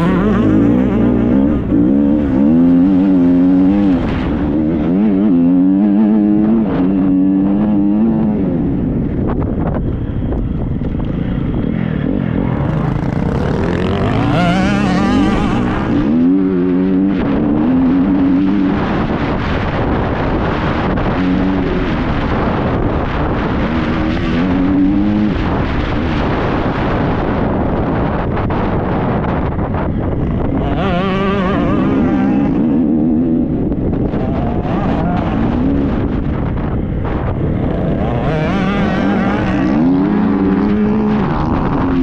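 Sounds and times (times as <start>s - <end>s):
motocross bike engine revving: 0.0s - 8.6s, 11.1s - 27.8s, 29.9s - 42.0s.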